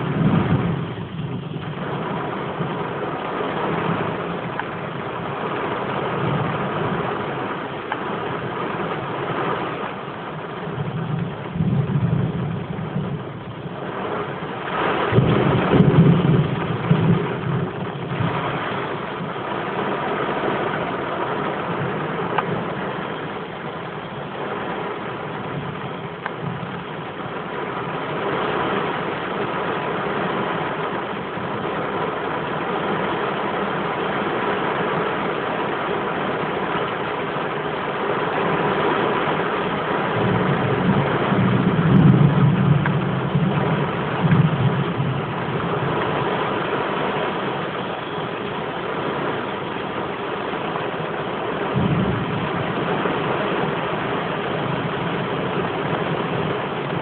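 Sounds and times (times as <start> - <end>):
heavy rain: 0.0 - 57.0
thunder rumbling: 0.0 - 57.0.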